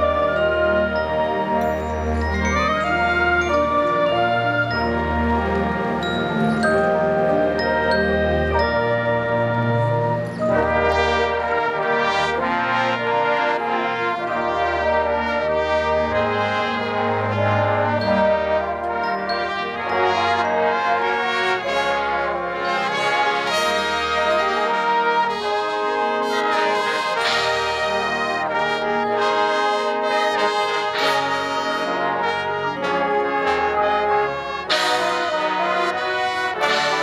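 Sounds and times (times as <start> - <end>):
marching band brass chords: 0.0 - 37.0.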